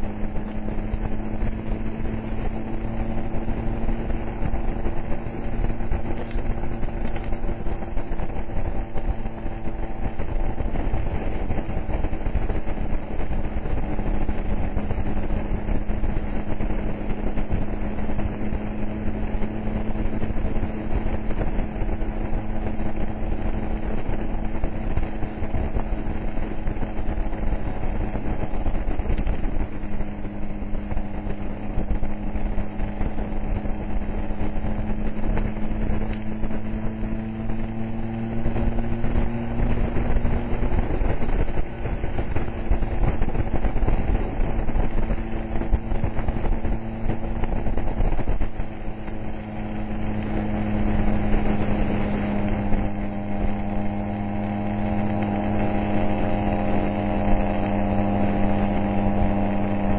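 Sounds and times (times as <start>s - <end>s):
scooter engine running: 0.0s - 59.9s
wind rumbling on microphone: 0.0s - 59.9s.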